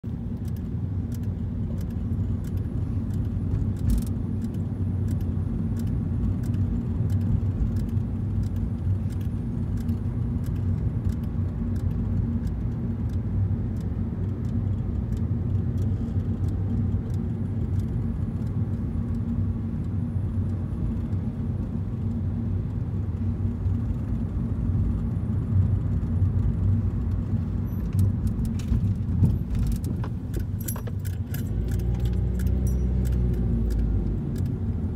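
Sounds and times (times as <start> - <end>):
car engine and tyres rumbling: 0.0 - 34.9.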